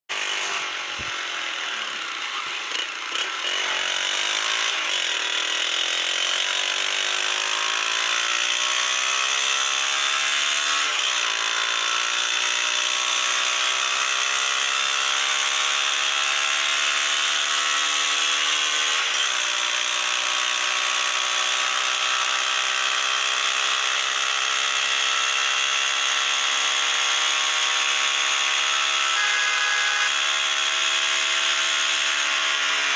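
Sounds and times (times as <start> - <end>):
motorcycle engine revving: 0.1 - 19.6, 24.7 - 32.9.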